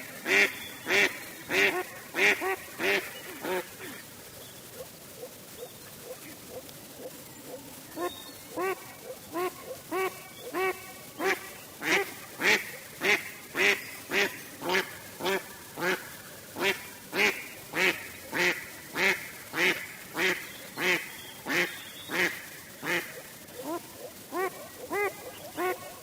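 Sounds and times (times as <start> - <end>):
duck quacking: 0.1 - 4.1, 6.0 - 26.0.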